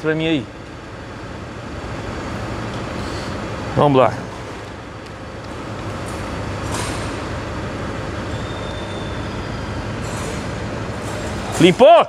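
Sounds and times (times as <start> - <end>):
mechanical rumble with hum: 0.0 - 11.8.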